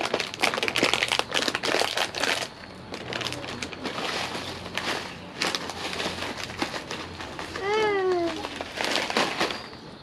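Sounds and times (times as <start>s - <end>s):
plastic snack bag crinkling: 0.0s - 9.8s.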